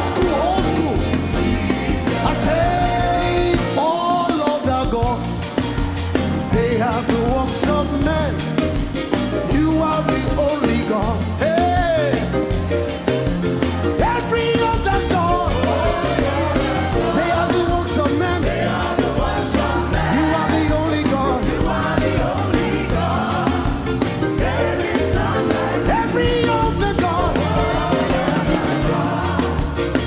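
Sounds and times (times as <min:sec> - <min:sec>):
band playing: 0:00.0 - 0:30.0
voices singing gospel music: 0:00.0 - 0:30.0.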